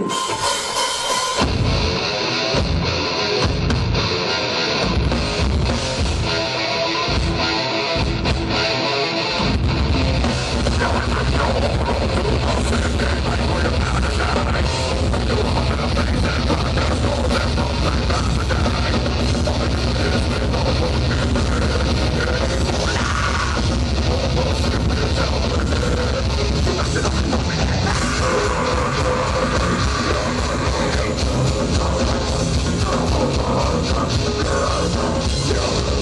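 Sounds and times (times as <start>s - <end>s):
heavy metal band playing: 0.0s - 36.0s.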